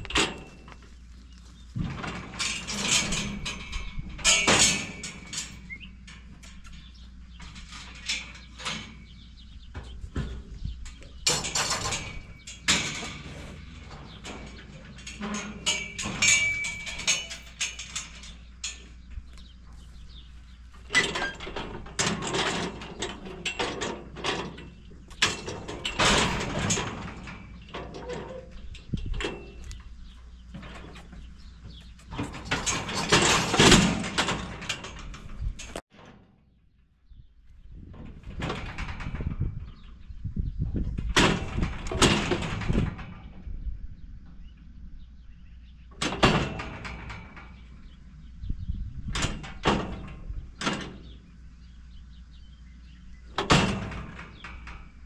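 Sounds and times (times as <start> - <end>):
metal chute rattling and clanging: 0.0 - 36.4, 37.9 - 43.5, 45.9 - 55.0.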